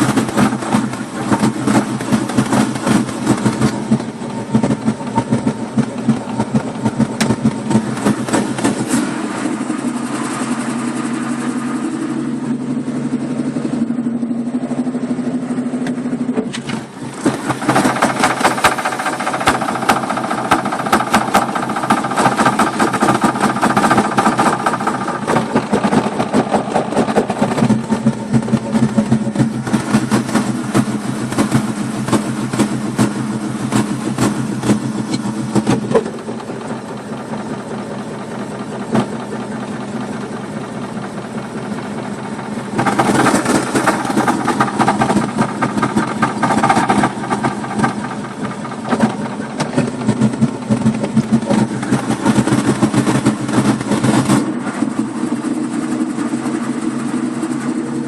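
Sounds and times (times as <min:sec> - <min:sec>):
car engine idling roughly: 0:00.0 - 0:58.0.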